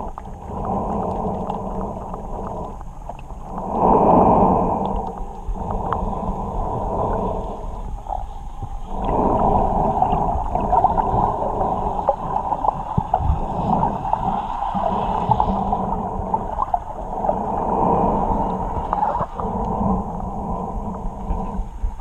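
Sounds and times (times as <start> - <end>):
muffled underwater gurgling: 0.0 - 22.0.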